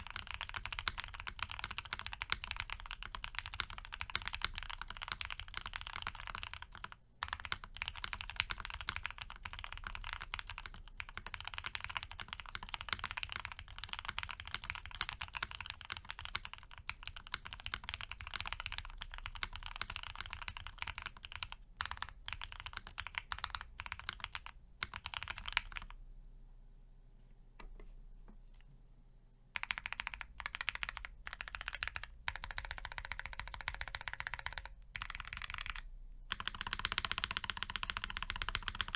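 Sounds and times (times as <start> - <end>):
fast typing on mechanical keyboard: 0.0 - 26.0, 29.6 - 38.9.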